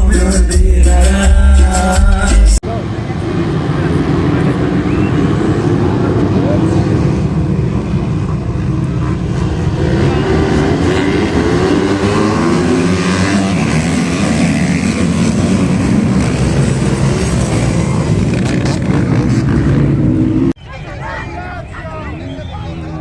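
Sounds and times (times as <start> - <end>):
racing motorcycles revving: 0.0 - 20.6.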